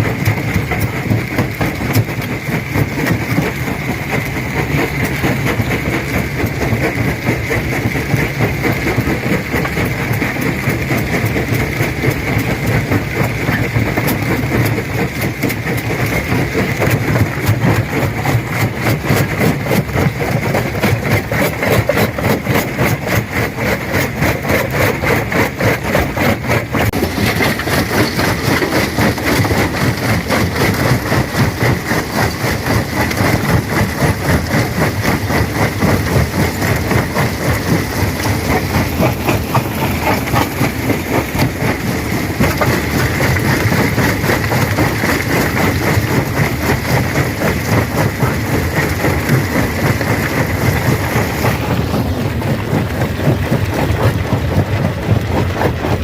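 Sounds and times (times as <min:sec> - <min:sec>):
stone crusher running: 0:00.0 - 0:56.0.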